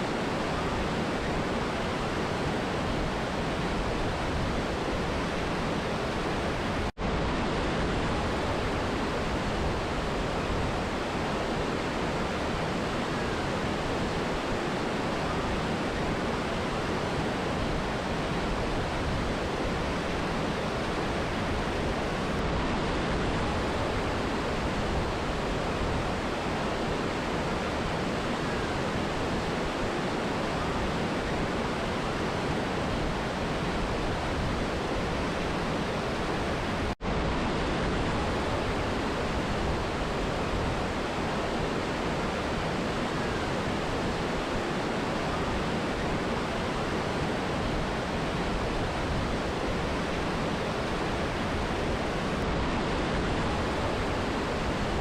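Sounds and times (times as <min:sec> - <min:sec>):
river and waterfall rushing: 0:00.0 - 0:55.0.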